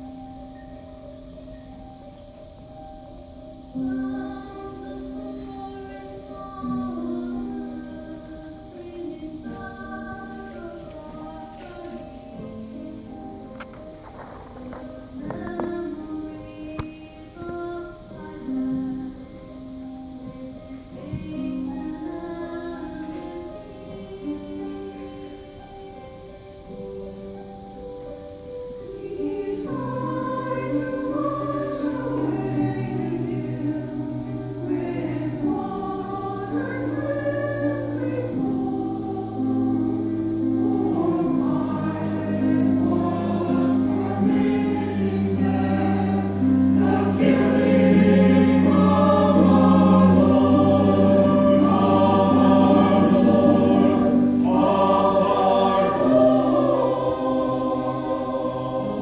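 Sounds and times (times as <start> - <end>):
instrumental accompaniment: 0.0 - 59.0
choir singing: 1.5 - 27.8, 28.5 - 59.0.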